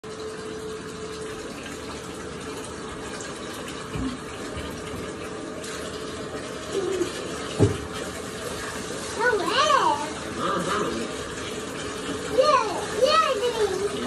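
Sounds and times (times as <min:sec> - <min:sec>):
water running into bathtub: 0:00.0 - 0:14.0.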